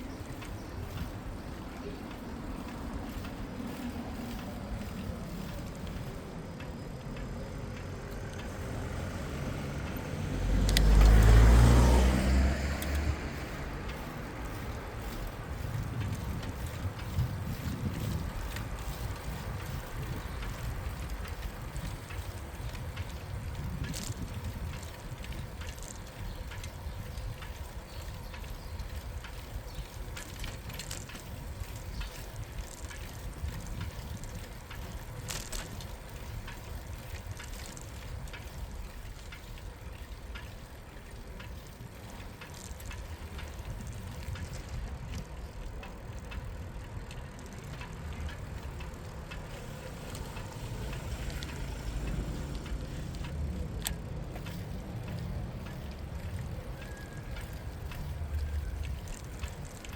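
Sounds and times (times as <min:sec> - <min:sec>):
bicycle clicks and rattles: 0:00.0 - 0:59.9
wind and tyres rumbling: 0:00.0 - 0:59.9.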